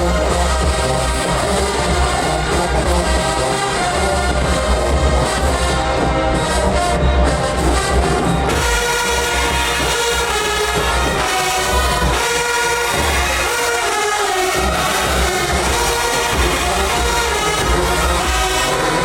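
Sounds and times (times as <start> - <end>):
brass horns: 0.0 - 19.0
heavy bass beat: 0.0 - 19.0.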